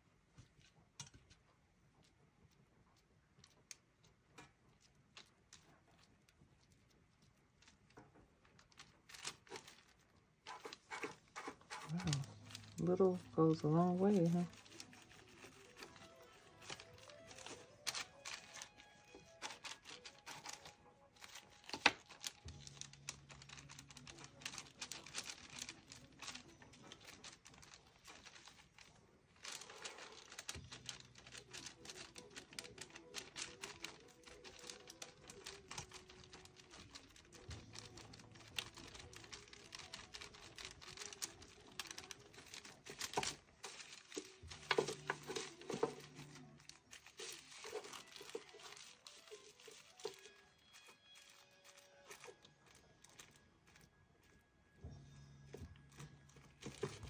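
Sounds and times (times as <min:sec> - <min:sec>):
crinkling of plastic wrap: 0:00.4 - 0:54.6, 0:55.5 - 0:57.0.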